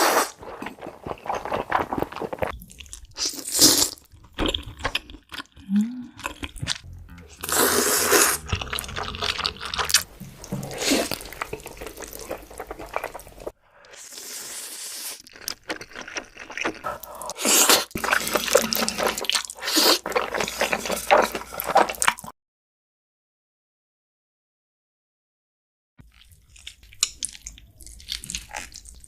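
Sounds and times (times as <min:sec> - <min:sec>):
wet chewing and slurping: 0:00.0 - 0:22.3, 0:26.0 - 0:29.0
food crunching: 0:00.2 - 0:13.5, 0:15.2 - 0:22.3, 0:26.0 - 0:29.0.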